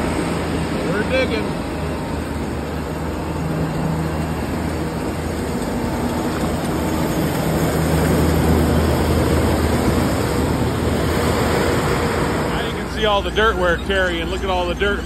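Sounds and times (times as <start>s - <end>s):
harvester conveyors and falling dirt: 0.0s - 15.0s
tractor engine drone: 0.0s - 15.0s.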